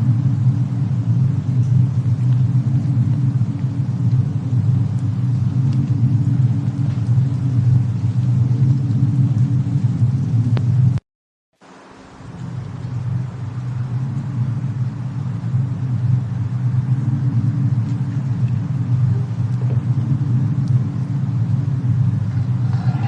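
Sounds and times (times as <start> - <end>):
low steady rumble: 0.0 - 11.0, 11.6 - 23.0
faint crackling ticks: 1.2 - 11.0, 12.3 - 23.0.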